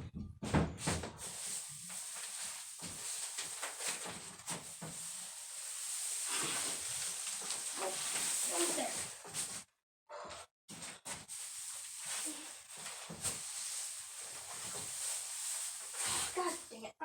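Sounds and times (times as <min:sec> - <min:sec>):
hay and clothing rustling: 0:01.2 - 0:09.6, 0:10.7 - 0:16.9
steady hiss: 0:01.2 - 0:09.6, 0:11.1 - 0:16.8.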